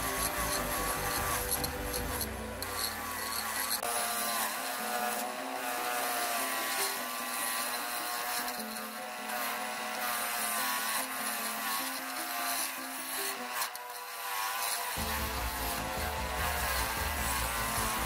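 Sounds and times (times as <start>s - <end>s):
background music with wavering melody: 0.0s - 18.0s.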